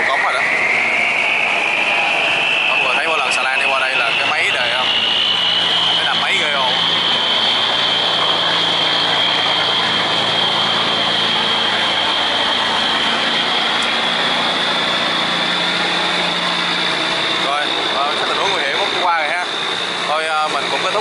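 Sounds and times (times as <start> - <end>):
diesel engine drone with whine: 0.0 - 21.0.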